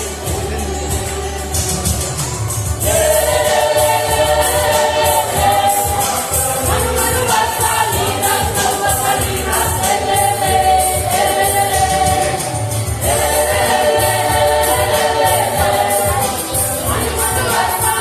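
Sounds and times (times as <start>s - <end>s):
accompanying instruments beat: 0.0s - 18.0s
gospel choir singing: 0.0s - 18.0s.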